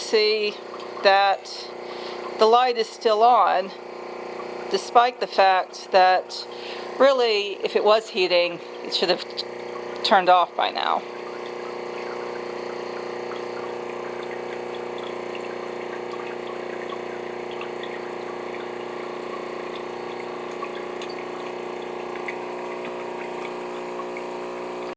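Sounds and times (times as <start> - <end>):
espresso machine pump humming: 0.0 - 24.9
water flowing: 0.0 - 24.9.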